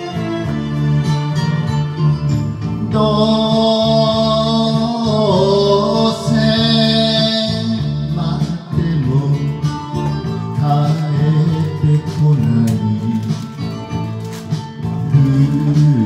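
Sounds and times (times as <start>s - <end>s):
karaoke backing track with guitar: 0.0s - 16.0s
man singing into microphone: 1.9s - 16.0s.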